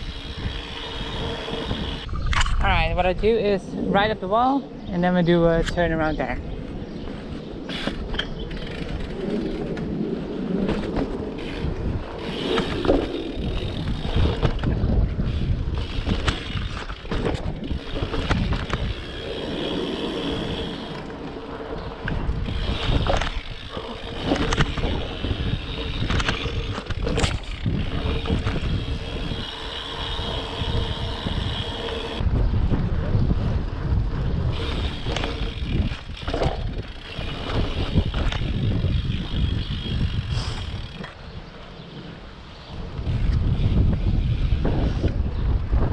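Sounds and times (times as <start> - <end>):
bike tyres rolling and scraping: 0.0 - 4.9, 5.8 - 45.9
wind buffeting microphone: 0.0 - 45.9.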